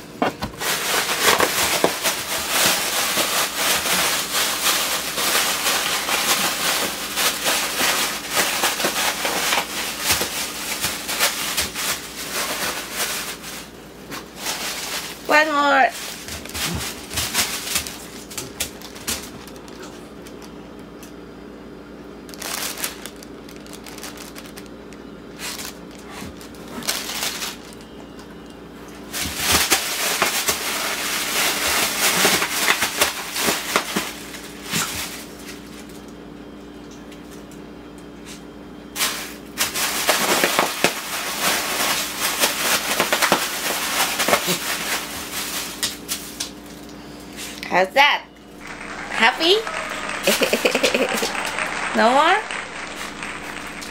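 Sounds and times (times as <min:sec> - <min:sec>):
bubble wrap crinkling and popping: 0:00.4 - 0:20.6, 0:22.2 - 0:28.2, 0:29.0 - 0:36.0, 0:39.0 - 0:46.8, 0:48.6 - 0:53.9.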